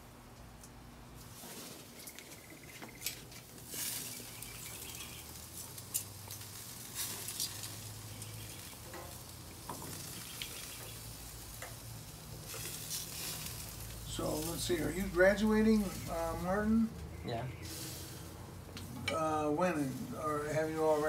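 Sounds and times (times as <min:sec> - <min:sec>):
food sizzling on grill: 0:03.0 - 0:21.0.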